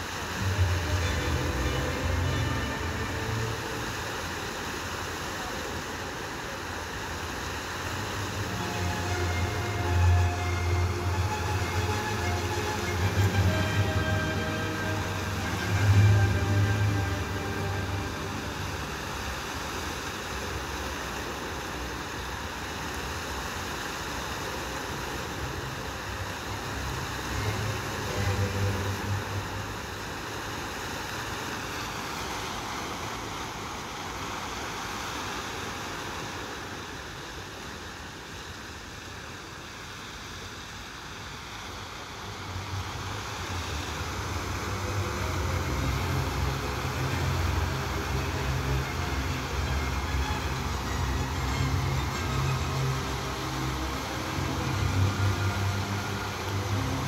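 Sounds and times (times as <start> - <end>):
fountain jets splashing: 0.0 - 57.0.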